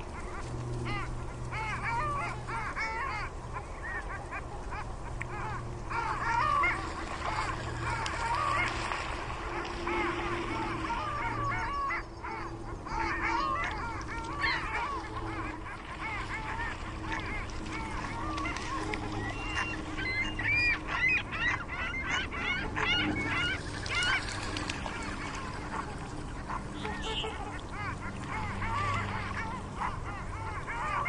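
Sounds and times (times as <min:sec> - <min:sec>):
flock of birds honking: 0:00.0 - 0:31.0.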